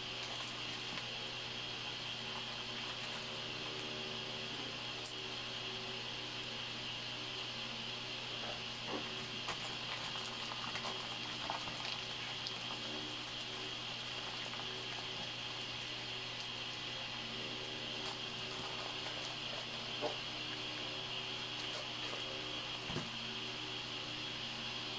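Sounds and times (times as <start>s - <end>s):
room noise hiss and hum: 0.0s - 24.9s.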